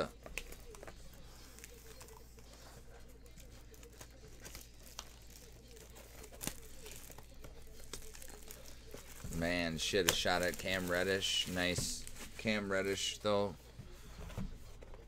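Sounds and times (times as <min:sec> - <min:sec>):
plastic wrap crinkling and tearing: 0:00.0 - 0:13.2.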